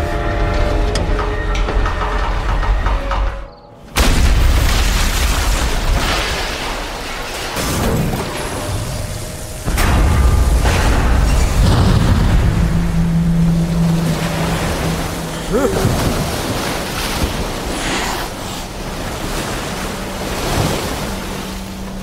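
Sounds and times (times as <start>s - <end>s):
flood water rushing and crashing: 3.9s - 22.0s.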